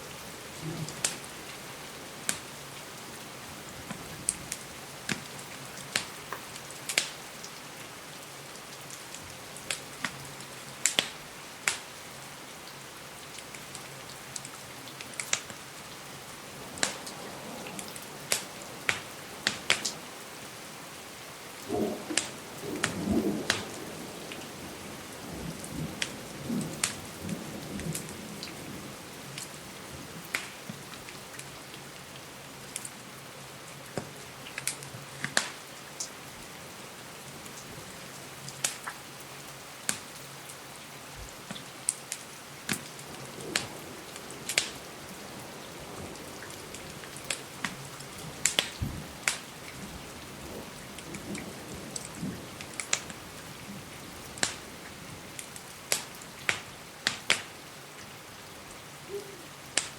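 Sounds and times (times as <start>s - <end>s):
rain hiss: 0.0s - 59.9s
wood fire crackling: 0.1s - 7.6s, 8.8s - 10.2s, 10.8s - 11.9s, 13.3s - 28.5s, 29.3s - 31.6s, 33.9s - 36.2s, 37.4s - 39.0s, 39.8s - 40.2s, 41.2s - 57.6s, 59.1s - 59.9s.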